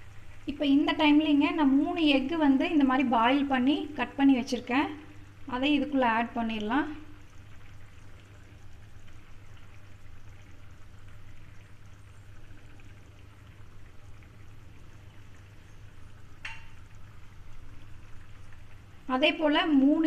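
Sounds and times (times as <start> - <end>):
gravy bubbling and popping: 0.0 - 20.0
low steady hum: 0.0 - 20.0.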